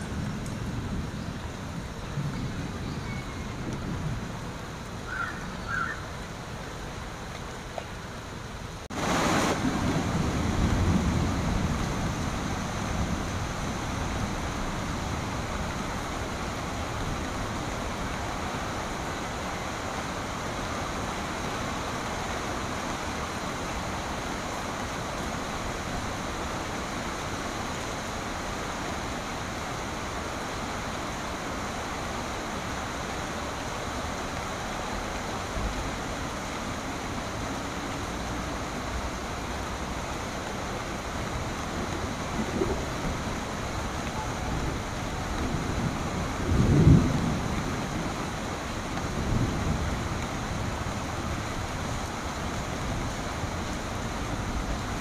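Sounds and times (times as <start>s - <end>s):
steady rain: 0.0s - 55.0s
wind through trees: 0.0s - 55.0s.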